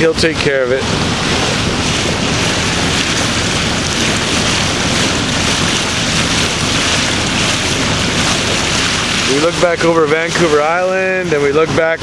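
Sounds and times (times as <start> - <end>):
boat engine drone: 0.0 - 12.0
wind and water rushing: 0.0 - 12.0.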